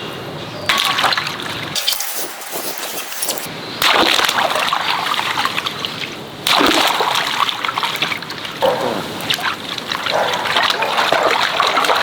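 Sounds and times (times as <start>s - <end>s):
water gushing and splashing: 0.7s - 12.0s.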